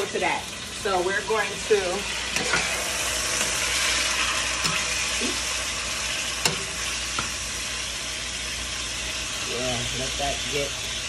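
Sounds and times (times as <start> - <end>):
chicken sizzling in a skillet: 0.0 - 11.0.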